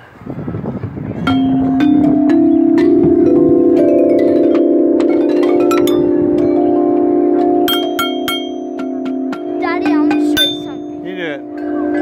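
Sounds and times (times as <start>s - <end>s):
metal xylophone bell-like notes: 1.2s - 12.0s.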